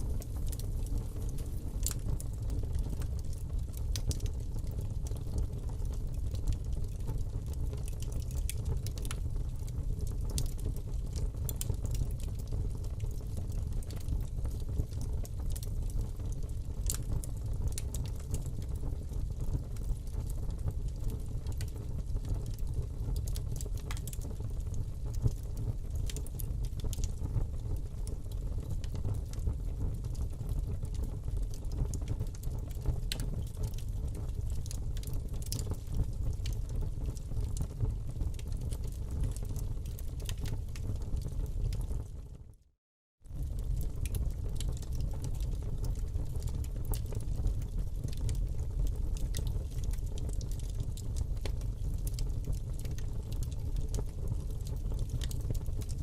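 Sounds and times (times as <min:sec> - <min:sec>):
fire crackling in fireplace: 0:00.0 - 0:42.7, 0:43.3 - 0:56.0.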